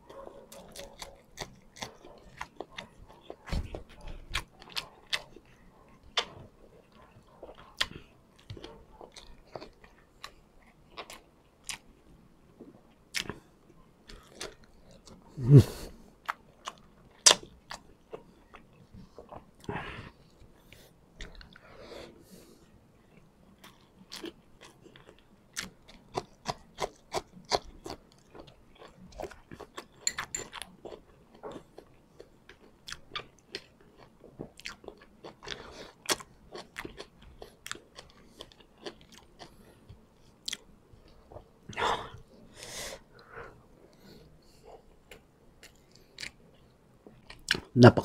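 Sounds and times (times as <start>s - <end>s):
man chewing food: 0.0s - 47.8s.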